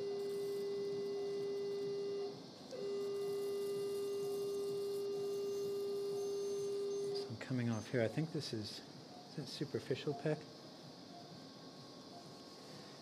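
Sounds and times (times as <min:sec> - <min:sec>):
steady mid-pitched activation tone: 0:00.0 - 0:13.0.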